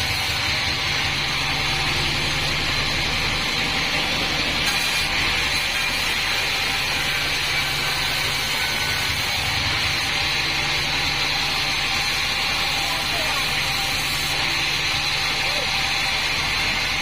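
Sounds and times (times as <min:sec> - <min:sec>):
band saw whining through log: 0:00.0 - 0:17.0.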